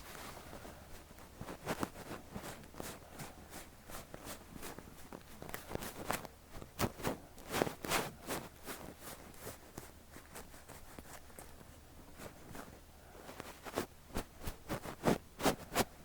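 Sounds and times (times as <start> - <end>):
soft brush rustling over ear: 0.0 - 16.0.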